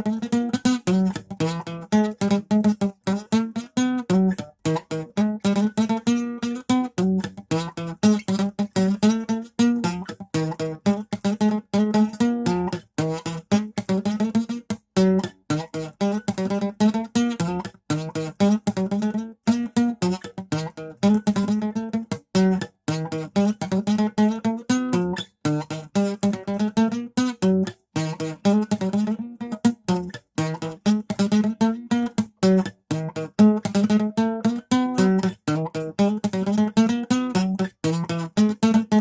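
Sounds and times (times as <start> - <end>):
acoustic guitar riff: 0.0 - 39.0.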